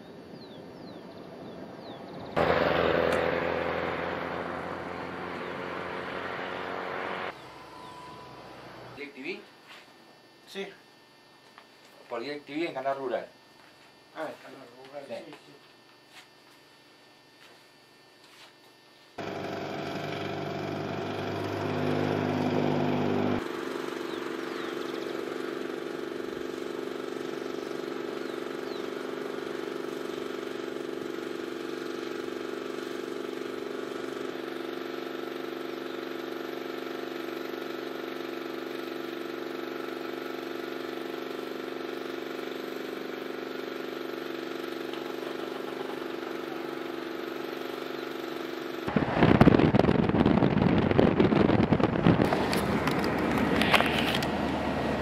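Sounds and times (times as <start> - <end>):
engine droning: 0.4 - 9.2, 19.2 - 55.0.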